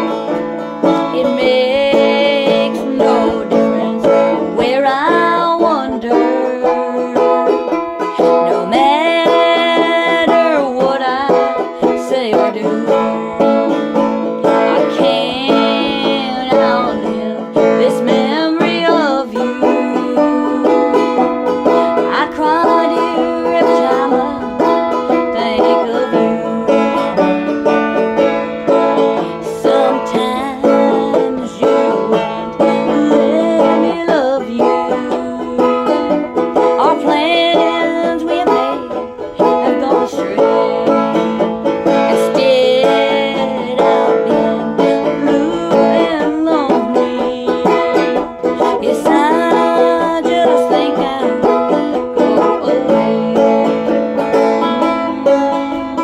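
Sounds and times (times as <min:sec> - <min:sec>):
banjo picking bluegrass tune: 0:00.0 - 0:56.0.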